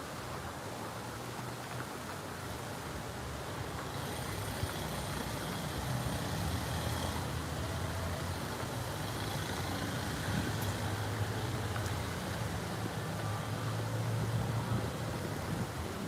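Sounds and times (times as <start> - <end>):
vehicle engine rumbling: 1.5 - 16.0.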